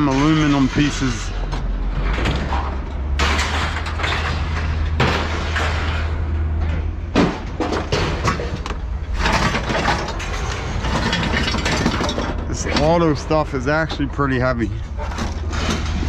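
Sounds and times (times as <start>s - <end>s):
scrap metal clanking onto pile: 0.0s - 16.0s.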